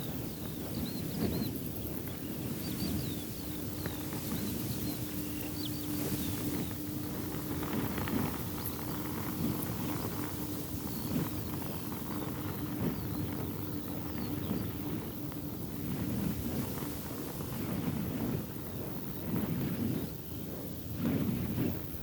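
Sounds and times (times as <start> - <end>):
fabric flapping in wind: 0.0 - 22.0
wind buffeting microphone: 0.0 - 22.0.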